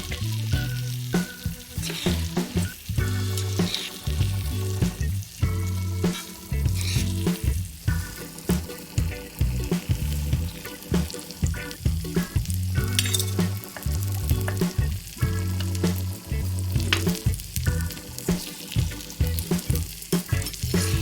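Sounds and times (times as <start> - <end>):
chicken sizzling in a pan: 0.0 - 21.0
music with heavy bass: 0.0 - 21.0.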